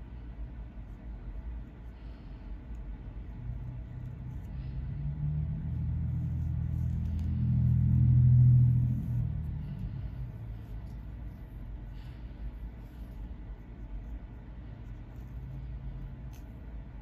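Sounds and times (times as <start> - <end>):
low rumble with steady hum: 0.0 - 17.0
comb scratching scalp: 2.5 - 17.0.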